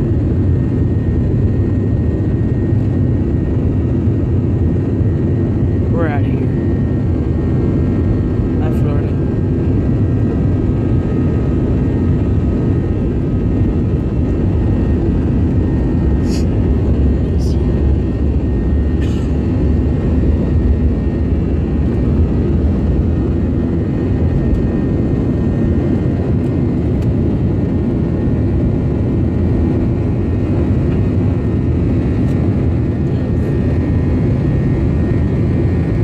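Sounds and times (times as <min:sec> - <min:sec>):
jet engines at takeoff power: 0:00.0 - 0:36.0.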